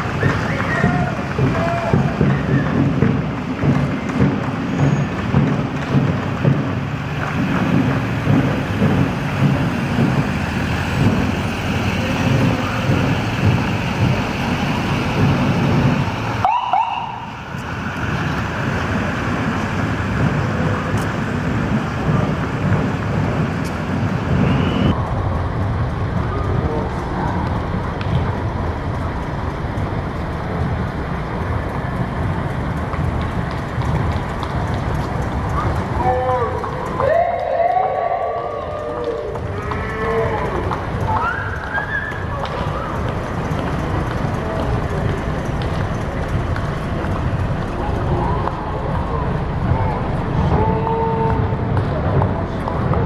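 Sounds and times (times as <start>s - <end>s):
vehicle engines rolling past: 0.0s - 53.0s.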